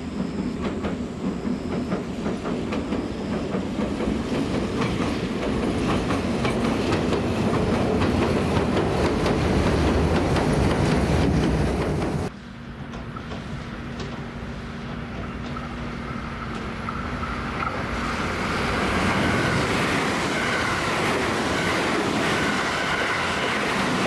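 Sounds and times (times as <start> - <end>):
train wheels clicking over rails: 0.0 - 24.0.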